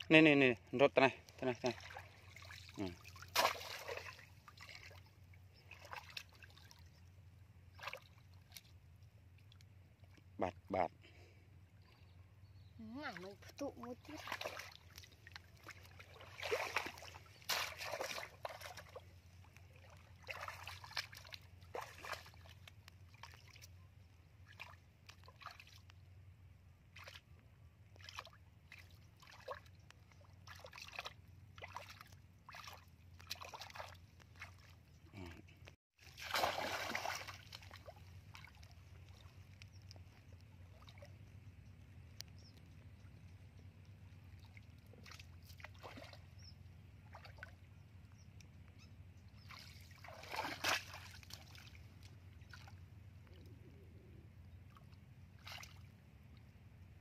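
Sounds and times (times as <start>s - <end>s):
water splashing in a stream: 1.0s - 10.6s, 13.0s - 23.8s, 24.4s - 25.9s, 26.8s - 35.0s, 36.0s - 42.1s, 43.5s - 47.7s, 49.3s - 53.2s, 54.6s - 56.9s.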